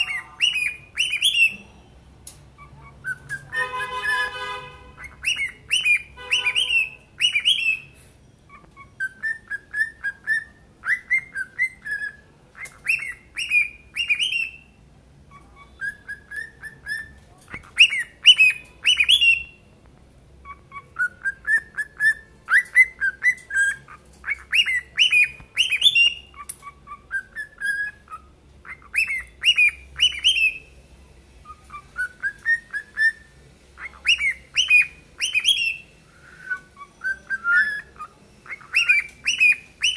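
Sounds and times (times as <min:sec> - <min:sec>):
cockatiels whistling: 0:00.0 - 0:01.6, 0:02.6 - 0:04.4, 0:05.0 - 0:19.6, 0:20.4 - 0:30.7, 0:31.4 - 0:39.9.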